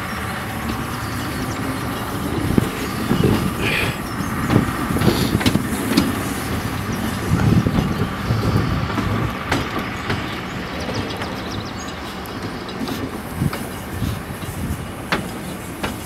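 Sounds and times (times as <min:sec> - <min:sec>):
tram rumbling and rattling: 0:00.0 - 0:16.0
wheels clicking on rails: 0:00.0 - 0:16.0.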